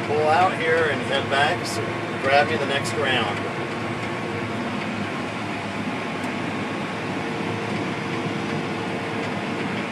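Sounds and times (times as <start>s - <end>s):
combine harvester drone: 0.0s - 9.9s.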